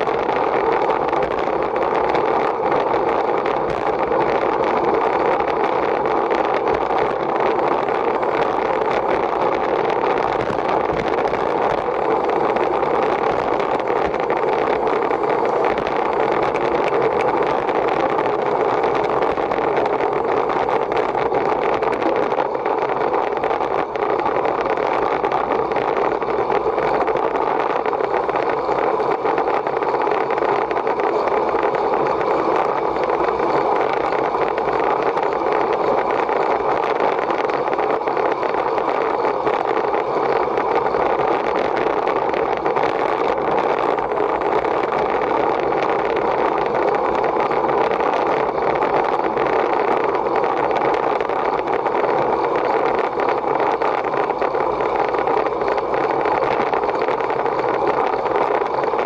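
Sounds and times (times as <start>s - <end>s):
wind and road noise rushing: 0.0s - 59.0s.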